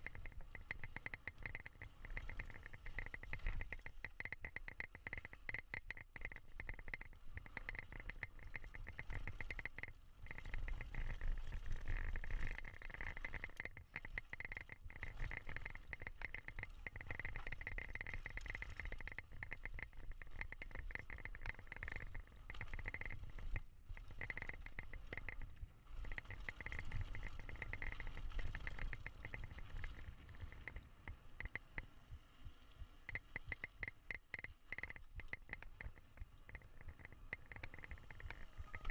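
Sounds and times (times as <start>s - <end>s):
bike tyre rumble and rattle: 0.0s - 38.9s
rear hub freewheel ticking: 0.0s - 38.9s.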